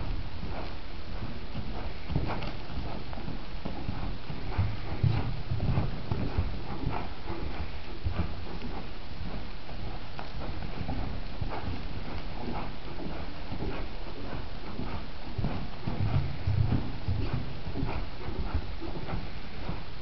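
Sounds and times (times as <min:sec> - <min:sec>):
horse hoofbeats on soft dirt: 0:00.0 - 0:20.0.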